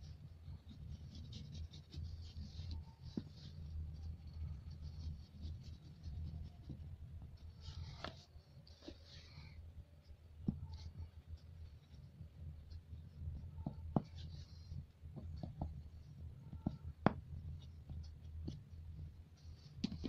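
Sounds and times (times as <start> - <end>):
pastel scratching on paper: 0.0 - 9.4, 10.4 - 20.0
low steady hum: 0.0 - 20.0.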